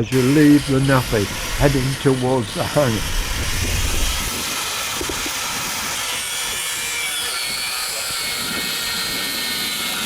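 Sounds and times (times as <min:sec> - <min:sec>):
power cutting tool running: 0:00.0 - 0:10.0.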